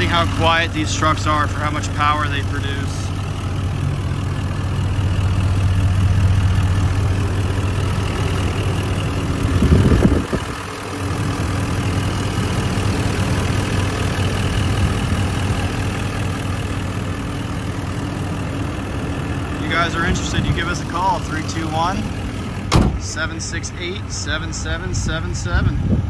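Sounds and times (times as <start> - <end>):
diesel engine idling: 0.0 - 26.0
low rumbling noise: 0.0 - 26.0.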